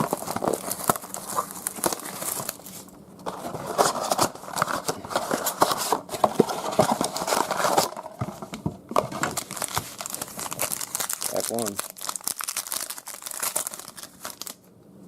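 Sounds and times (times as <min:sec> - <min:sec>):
plastic wrapping crinkling: 0:00.0 - 0:14.7.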